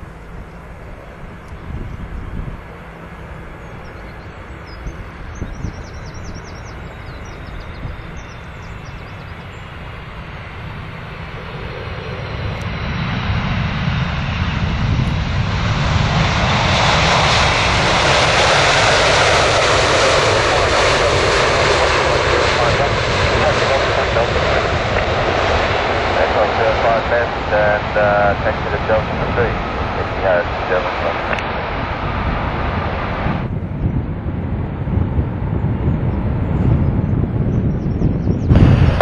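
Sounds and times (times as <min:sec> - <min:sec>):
jet airliner engines rumbling: 0:00.0 - 0:39.0.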